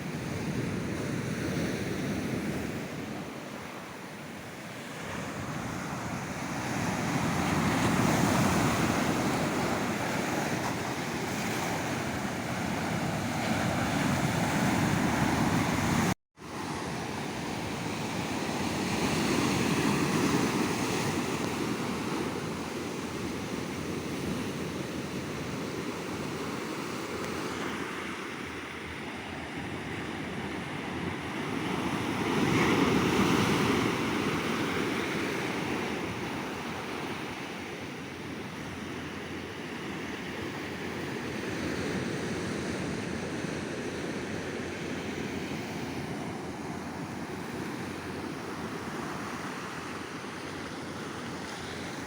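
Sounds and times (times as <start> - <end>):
waves breaking on beach: 0.0 - 52.0.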